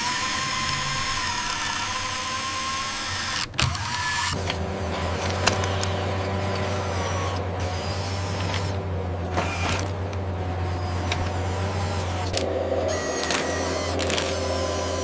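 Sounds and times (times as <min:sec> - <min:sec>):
small machinery humming: 0:00.0 - 0:15.0.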